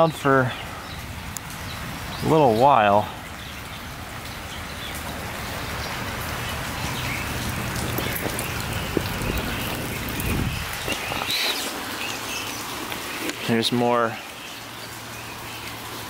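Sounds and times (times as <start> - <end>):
raindrops striking surfaces: 0.0 - 16.0
steady rain falling: 0.0 - 16.0.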